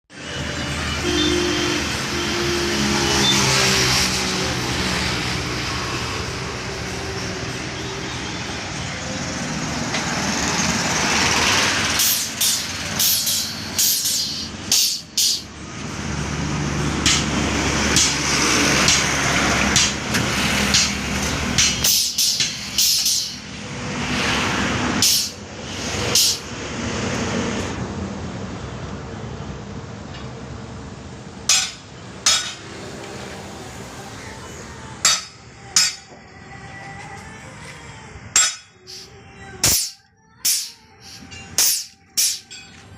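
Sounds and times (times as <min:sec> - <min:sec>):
truck engine running: 0:00.1 - 0:42.9.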